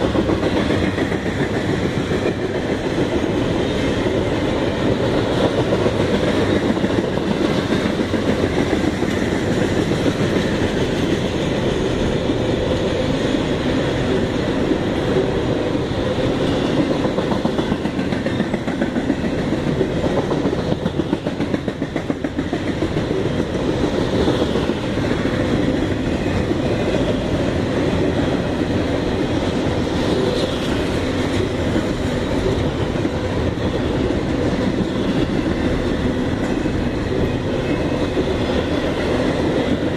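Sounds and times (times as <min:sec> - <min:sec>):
wheels clattering on rails: 0:00.0 - 0:39.9.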